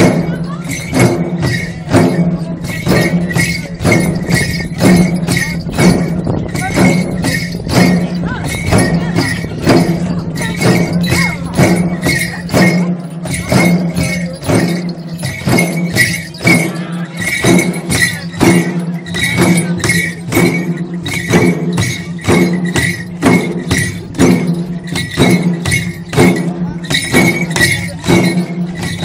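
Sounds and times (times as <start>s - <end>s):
barrel drums beating: 0.0s - 29.0s
metallic jingling: 0.0s - 29.0s.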